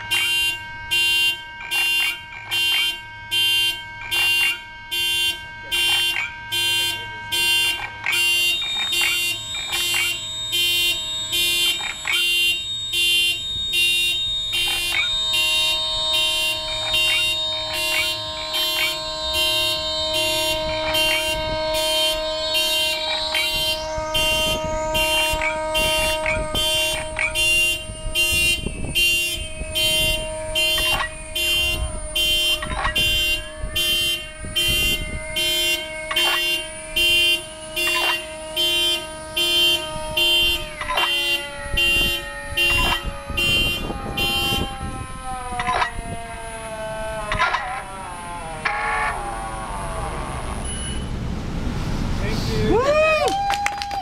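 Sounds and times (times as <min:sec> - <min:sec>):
layered steady electronic tones: 0:00.0 - 0:45.8
repeating electronic alarm pulse: 0:00.0 - 0:51.2.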